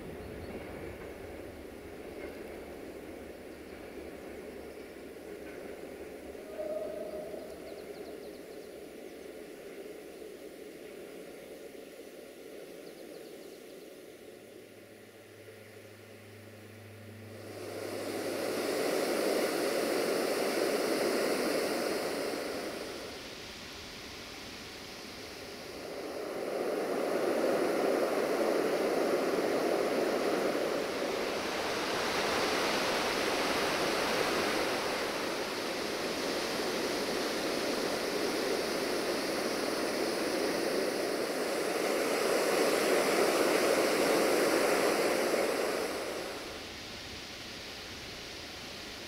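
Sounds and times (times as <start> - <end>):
steady rushing noise: 0.0 - 49.0.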